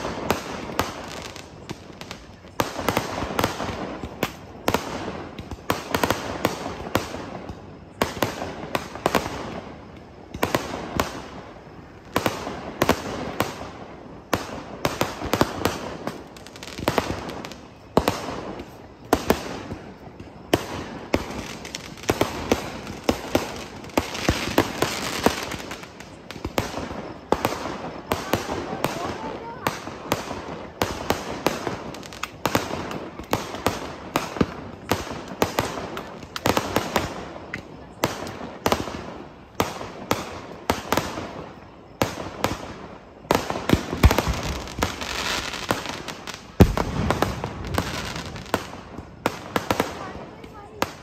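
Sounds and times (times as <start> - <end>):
fireworks bangs: 0.0 - 51.0
fireworks crackling: 0.0 - 51.0.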